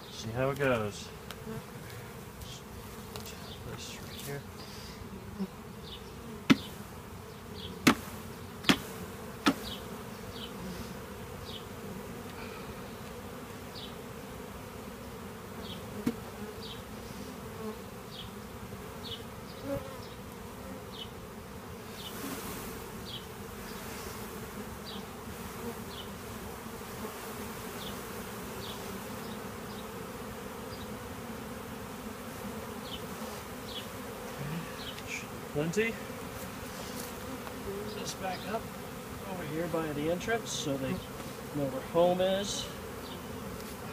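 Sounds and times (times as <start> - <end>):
bees buzzing: 0.0 - 43.9.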